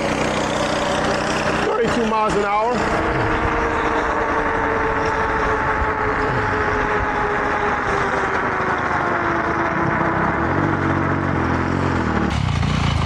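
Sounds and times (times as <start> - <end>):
electric motor whine: 0.0 - 12.3
dirt bike engine: 0.0 - 13.0
wind and ride noise: 0.0 - 13.0.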